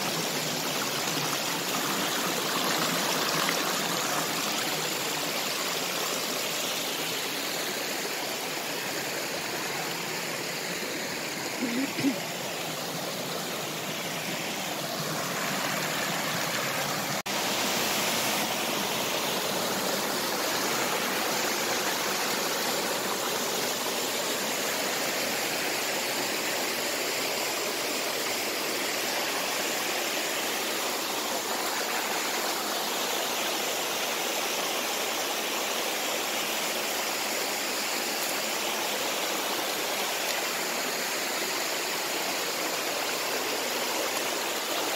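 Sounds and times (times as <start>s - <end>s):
stream rushing over boulders: 0.0s - 44.9s.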